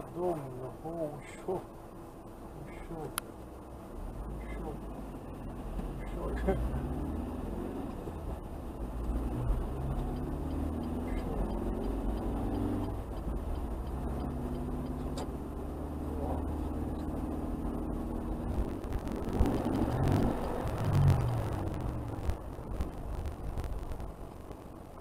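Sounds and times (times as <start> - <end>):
car engine: 0.0 - 25.0
road noise: 0.0 - 25.0.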